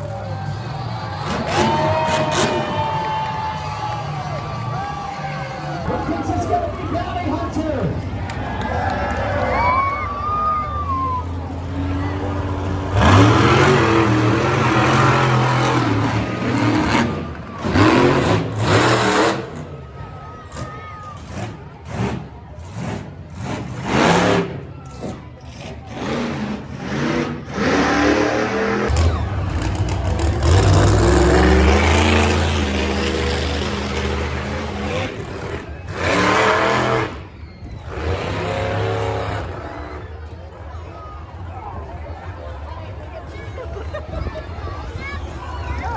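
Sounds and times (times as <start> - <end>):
monster truck engine revving: 0.0 - 45.9.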